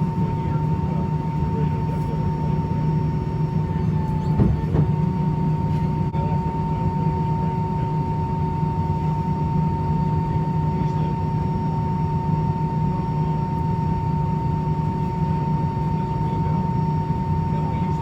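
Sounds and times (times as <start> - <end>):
airplane cabin rumble: 0.0 - 18.0
jet engine whine: 0.0 - 18.0.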